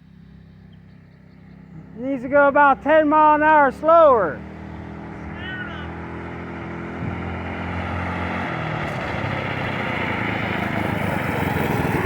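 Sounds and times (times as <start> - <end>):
trike engine running: 0.0 - 12.0.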